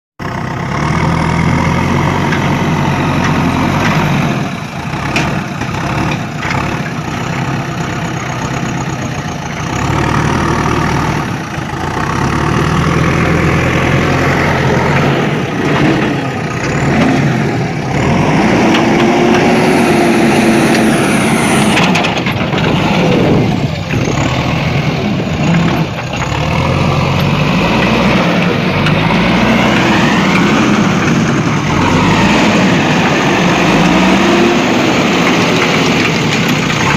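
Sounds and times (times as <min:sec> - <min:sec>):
vehicle engine running: 0:00.2 - 0:36.9.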